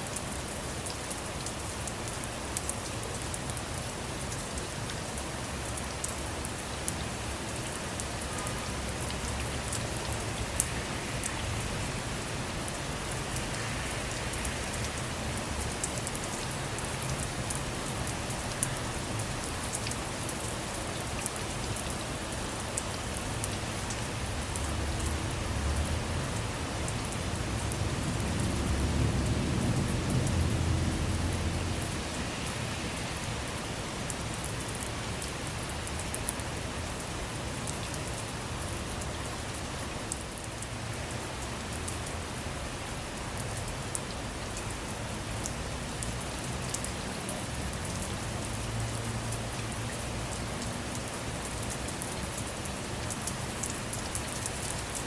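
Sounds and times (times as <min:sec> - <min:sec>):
rain falling on a car: 0:00.0 - 0:55.0.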